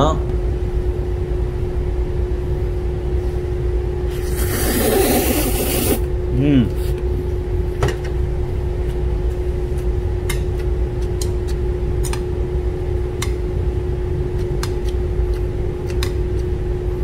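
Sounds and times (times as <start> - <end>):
machine hum with low rumble: 0.0 - 17.0.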